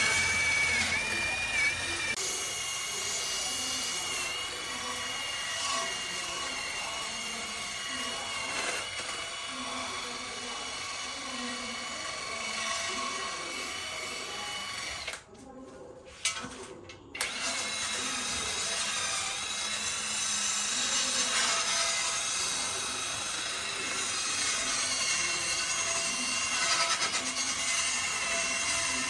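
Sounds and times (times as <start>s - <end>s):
power tool whining: 0.0s - 15.2s, 17.2s - 29.0s.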